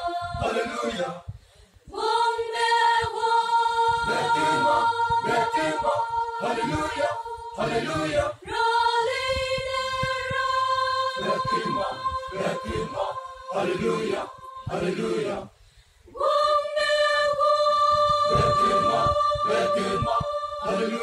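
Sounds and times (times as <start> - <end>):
choir singing sustained chords: 0.0 - 1.3, 1.9 - 21.0.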